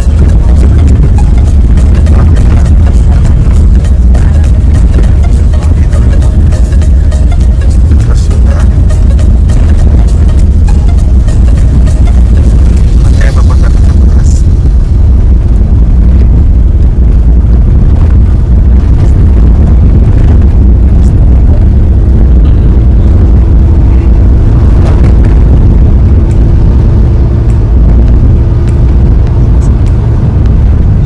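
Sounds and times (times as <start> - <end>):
car driving on road: 0.0 - 31.0
faint steady hum: 0.0 - 31.0.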